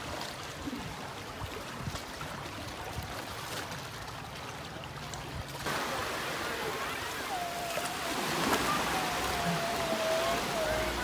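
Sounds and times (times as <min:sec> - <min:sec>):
water lapping around boat: 0:00.0 - 0:11.0.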